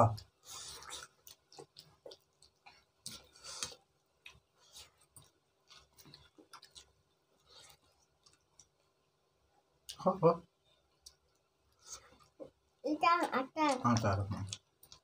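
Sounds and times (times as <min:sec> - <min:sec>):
people chewing: 0:00.0 - 0:10.1, 0:10.8 - 0:15.0.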